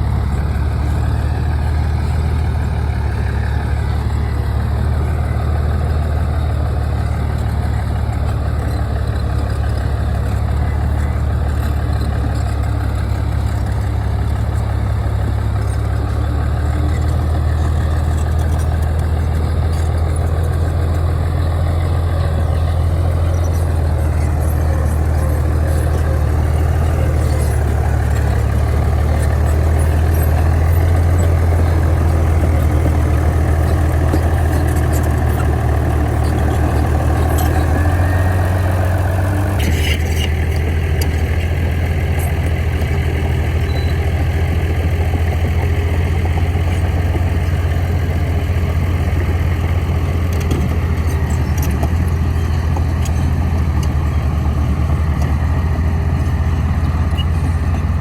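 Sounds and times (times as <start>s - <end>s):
bulldozer diesel engine drone: 0.0s - 58.0s.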